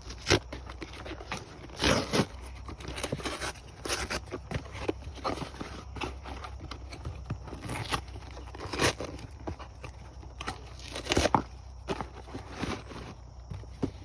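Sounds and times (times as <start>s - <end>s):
cardboard crackling and crunching: 0.0s - 14.0s.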